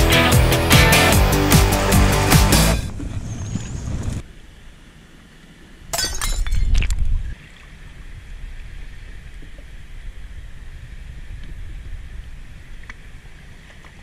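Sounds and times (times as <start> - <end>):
water noise: 2.6 - 14.0
wind: 2.8 - 14.0.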